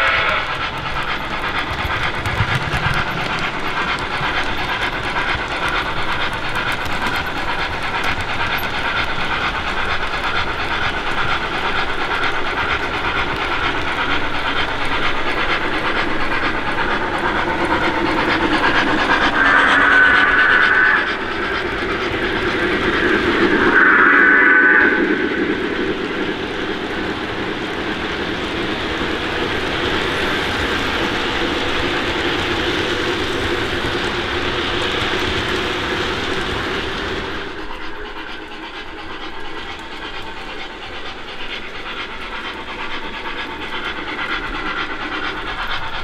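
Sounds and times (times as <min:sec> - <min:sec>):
wheels clattering on track: 0:00.0 - 0:23.8, 0:25.1 - 0:46.0
model steam locomotive chuffing: 0:00.0 - 0:46.0.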